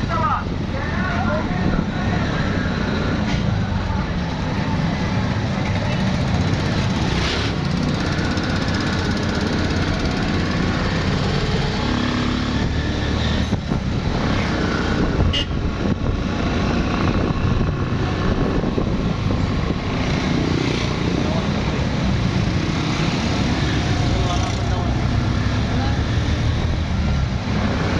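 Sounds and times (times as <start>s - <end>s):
vehicle engine and road noise: 0.0s - 27.9s.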